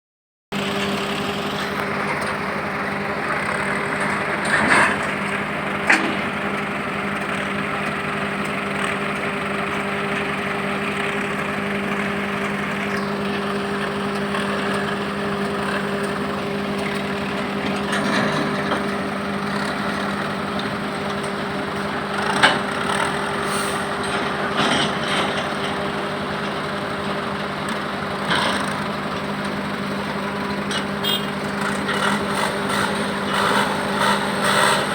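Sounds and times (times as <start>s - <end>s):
heavy vehicle engine running: 0.5s - 34.9s.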